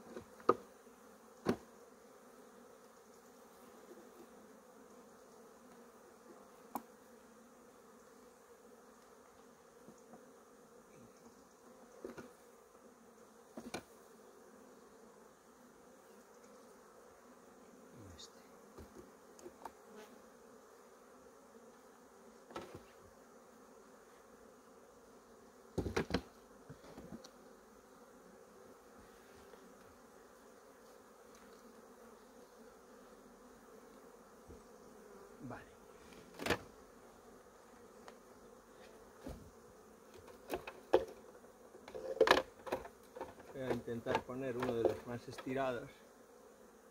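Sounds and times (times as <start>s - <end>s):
honeybees buzzing: 0.0s - 46.9s.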